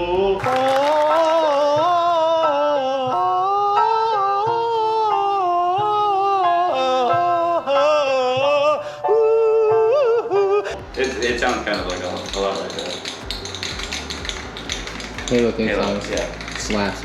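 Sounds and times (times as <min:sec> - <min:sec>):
person singing wordless melody: 0:00.0 - 0:15.2.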